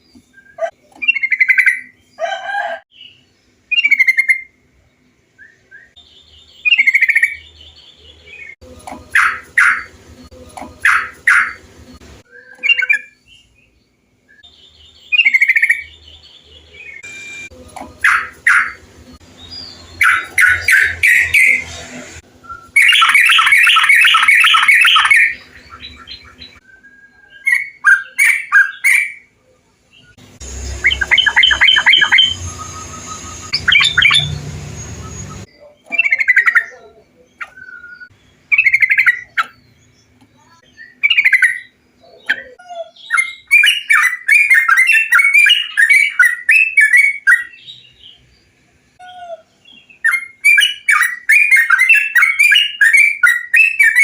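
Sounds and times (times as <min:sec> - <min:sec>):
bulbuls singing: 0:02.9 - 0:29.3, 0:29.9 - 0:54.0.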